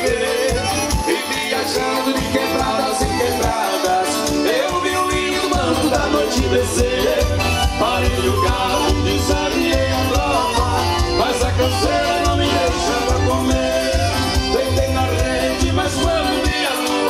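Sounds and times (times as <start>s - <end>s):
band playing dance music: 0.0s - 17.0s.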